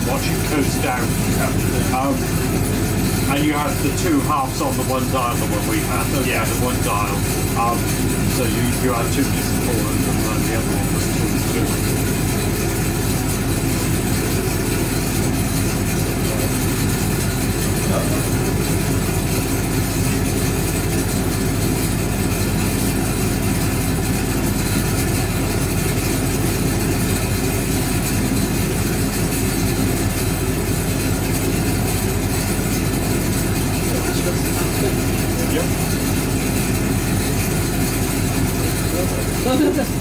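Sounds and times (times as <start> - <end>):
washing machine running: 0.0 - 40.0.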